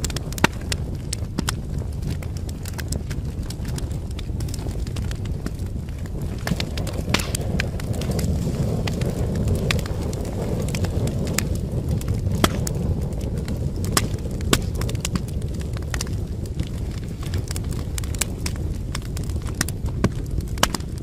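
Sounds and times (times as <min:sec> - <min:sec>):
low rumble: 0:00.0 - 0:20.8
fire pops: 0:00.0 - 0:21.0
wood fire crackling: 0:00.0 - 0:21.0.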